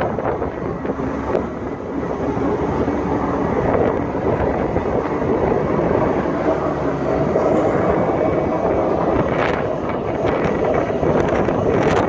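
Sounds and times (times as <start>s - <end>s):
water jetter engine and pump: 0.0s - 12.0s
water jetting through culvert: 0.0s - 12.0s
wind rumble on microphone: 0.0s - 12.0s.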